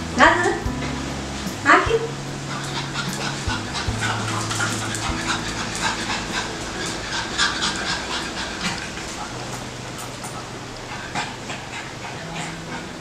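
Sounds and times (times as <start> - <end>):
puppy panting: 1.7 - 13.0.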